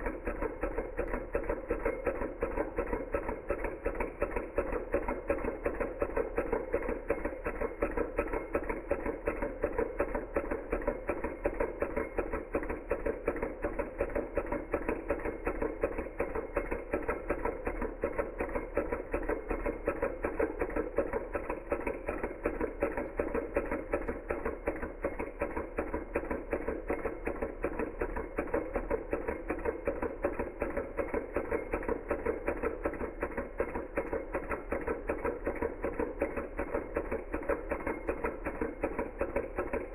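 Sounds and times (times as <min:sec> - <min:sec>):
model engine ticking clatter: 0:00.0 - 0:39.9.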